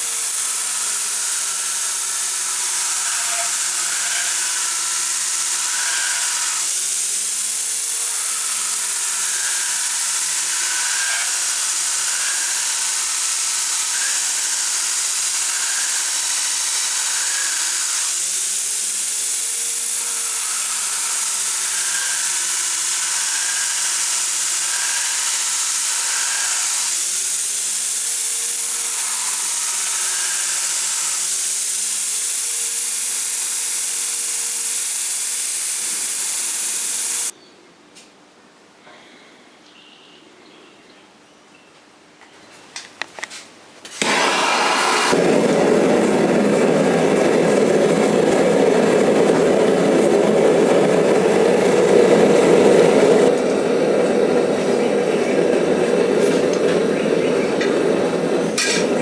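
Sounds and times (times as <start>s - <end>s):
power grinder on steel: 0.0s - 37.3s, 44.0s - 59.0s.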